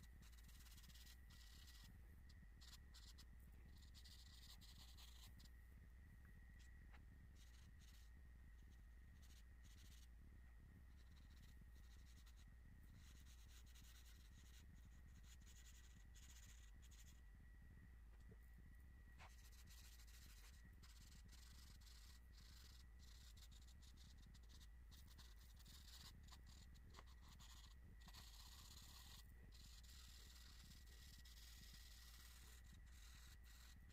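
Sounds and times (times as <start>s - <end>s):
charcoal scratching on paper: 0.0s - 5.5s, 6.9s - 10.1s, 10.9s - 17.2s, 19.2s - 33.9s
faint steady hum: 0.0s - 33.9s.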